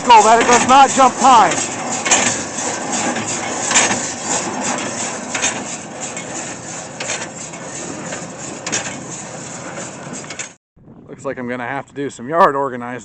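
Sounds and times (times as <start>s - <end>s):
baler mechanical clatter: 0.0s - 10.6s.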